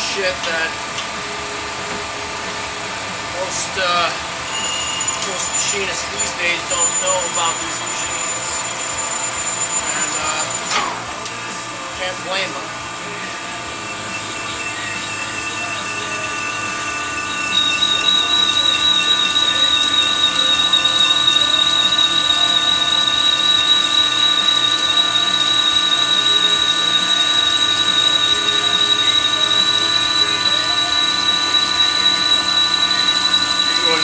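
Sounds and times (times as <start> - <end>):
lathe whining: 0.0 - 34.0
high wavering squeal: 2.7 - 34.0.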